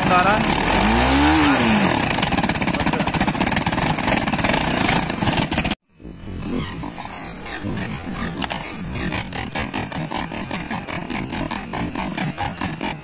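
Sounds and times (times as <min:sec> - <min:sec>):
balloon fluttering rattling buzz: 0:00.0 - 0:13.0
motorcycle engine running: 0:00.0 - 0:13.0.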